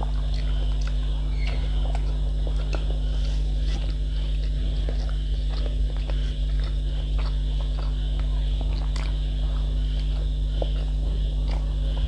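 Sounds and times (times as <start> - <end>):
low hum: 0.0 - 12.0
person chewing food: 0.0 - 12.0.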